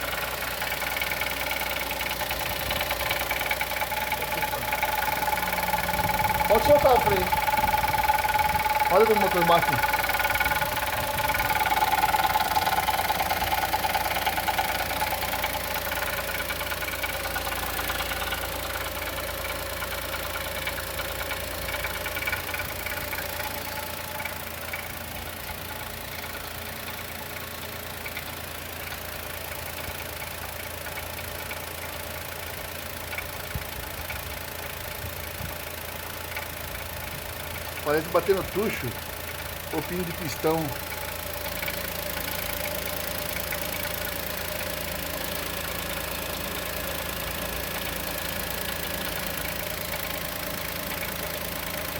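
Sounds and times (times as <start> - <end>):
car engine idling with knocking: 0.0 - 51.9.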